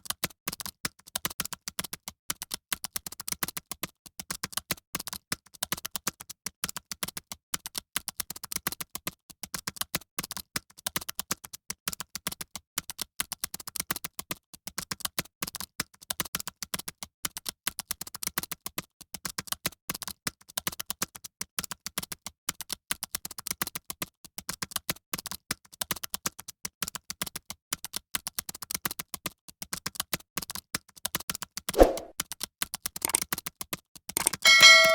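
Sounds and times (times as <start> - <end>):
rapid typing on keyboard: 0.0 - 31.6, 32.3 - 34.5.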